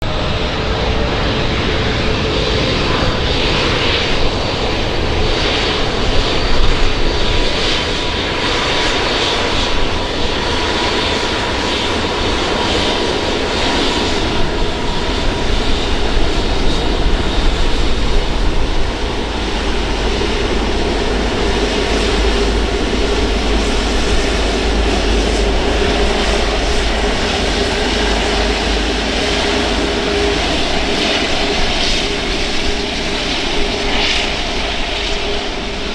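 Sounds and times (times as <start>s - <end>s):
jet engine whine: 0.0s - 35.9s
jet engines roaring: 0.0s - 35.9s.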